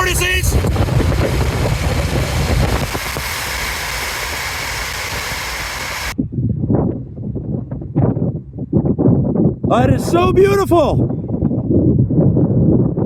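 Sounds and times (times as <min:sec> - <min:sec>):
wind and road noise: 0:00.0 - 0:13.0
wind buffeting microphone: 0:00.0 - 0:13.0.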